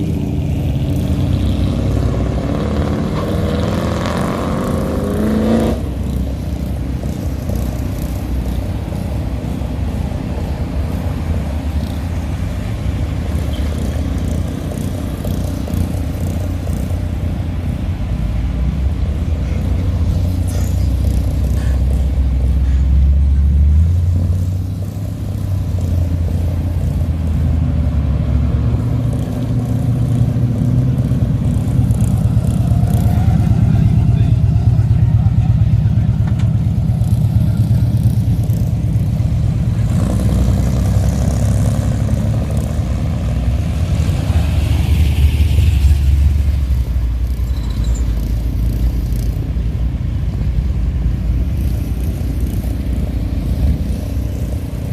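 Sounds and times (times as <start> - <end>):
car engines rumbling driving past: 0.0 - 54.9.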